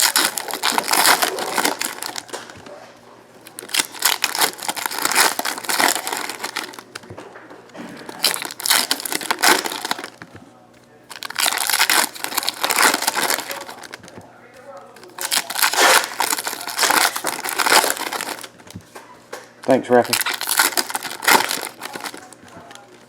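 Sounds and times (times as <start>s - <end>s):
wrappers being torn and crinkled: 0.0s - 2.6s, 3.4s - 7.0s, 7.9s - 10.2s, 11.1s - 14.2s, 14.9s - 18.7s, 19.6s - 22.8s.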